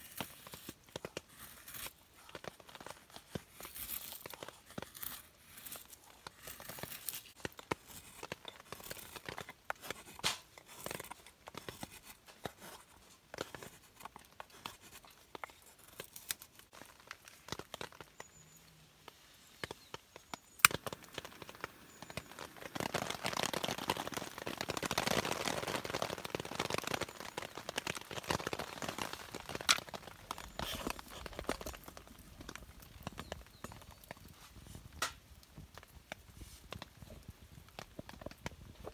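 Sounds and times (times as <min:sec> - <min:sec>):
crinkling and rustling: 0:00.0 - 0:38.9.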